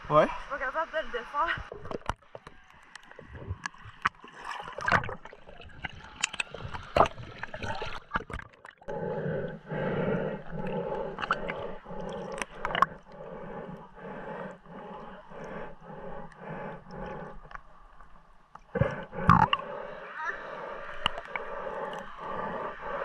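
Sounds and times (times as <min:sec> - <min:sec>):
muffled pulsing water rushing: 0:00.0 - 0:23.0
water sloshing and gurgling: 0:01.3 - 0:23.0.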